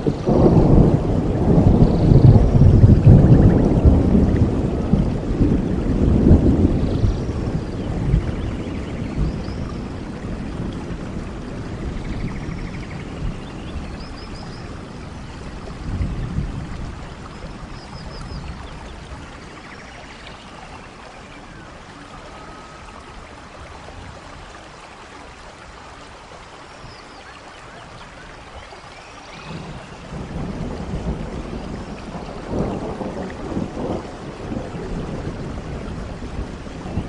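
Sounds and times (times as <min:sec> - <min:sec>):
thunder rumbling: 0:00.0 - 0:24.2, 0:29.3 - 0:37.0
steady rain falling: 0:00.0 - 0:37.0.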